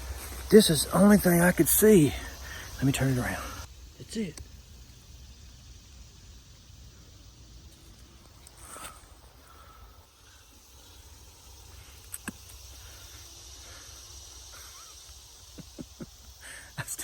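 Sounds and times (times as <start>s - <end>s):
high insect-like hiss: 0.0s - 17.0s.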